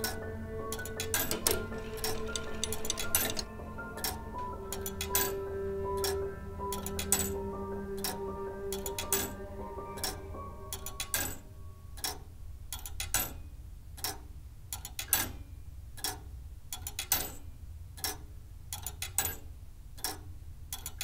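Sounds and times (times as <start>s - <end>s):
pendulum wall clock ticking: 0.0s - 7.4s, 8.0s - 9.4s, 10.0s - 21.0s.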